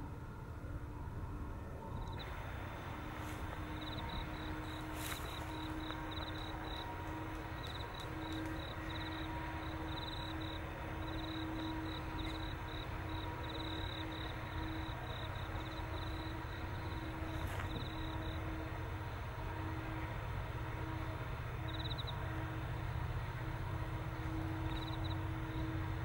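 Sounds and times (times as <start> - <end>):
faint hum and low rumble: 0.0 - 26.0
insects chirping in trills: 1.9 - 26.0.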